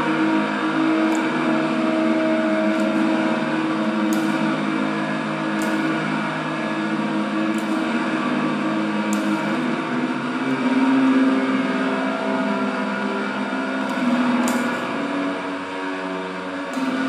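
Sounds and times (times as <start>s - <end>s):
electronic drone: 0.0s - 17.0s.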